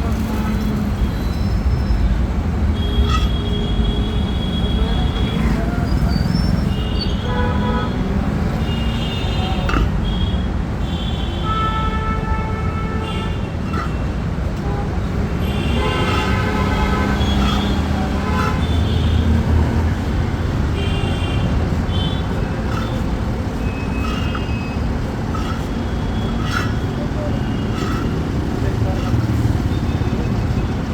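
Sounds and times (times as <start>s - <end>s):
road traffic: 0.0s - 30.9s
vehicle horns honking: 2.7s - 5.6s, 6.7s - 30.7s.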